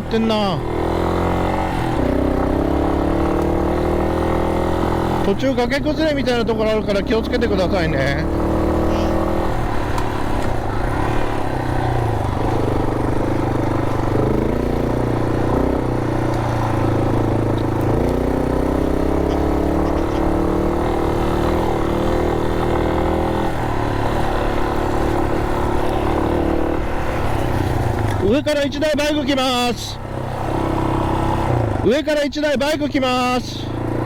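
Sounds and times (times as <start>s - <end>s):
motorcycle engine under load: 0.0s - 34.0s.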